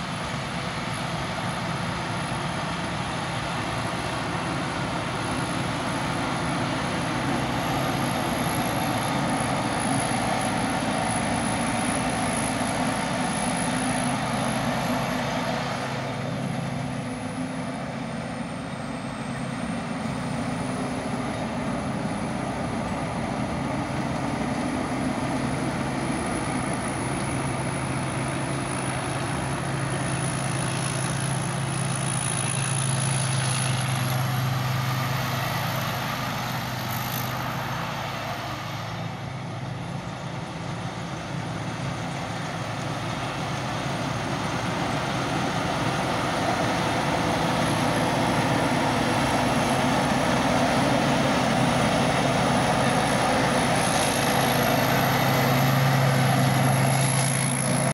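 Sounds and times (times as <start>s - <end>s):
combine harvester engine running: 0.0s - 57.9s.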